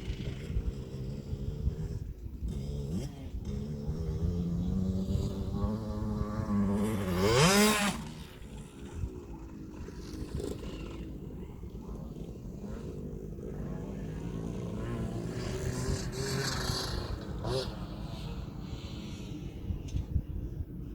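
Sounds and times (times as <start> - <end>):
two-stroke dirt bike engine revving: 0.0 - 19.5.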